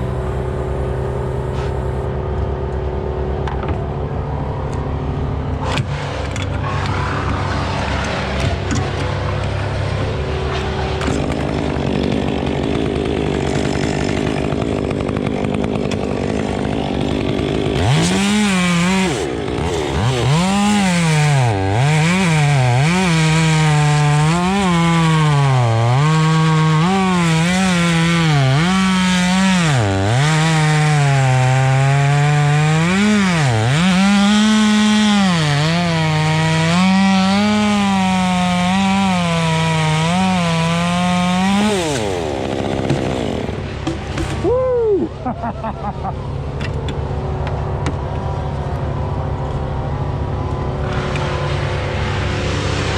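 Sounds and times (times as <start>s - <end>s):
chainsaw cutting wood: 0.0s - 2.8s, 5.5s - 44.6s, 50.2s - 52.9s.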